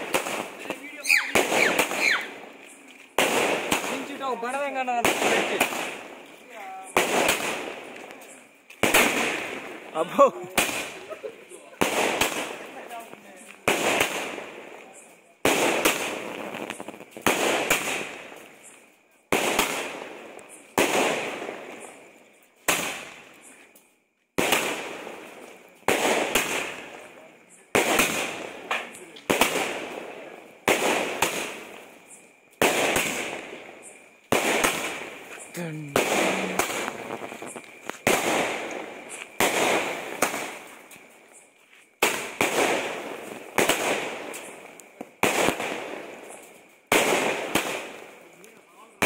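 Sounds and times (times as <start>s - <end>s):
fireworks bangs: 0.0s - 49.0s
fireworks rumble and crackle: 0.0s - 49.0s.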